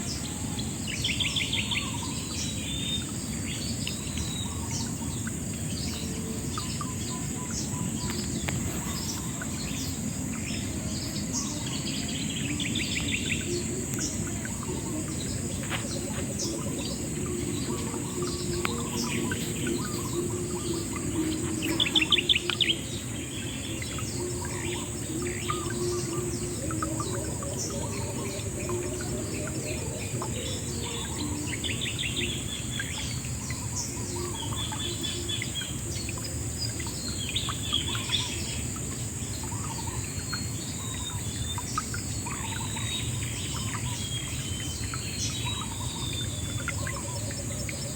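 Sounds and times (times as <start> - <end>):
birds chirping and singing: 0.0 - 47.9
insects droning: 0.0 - 47.9.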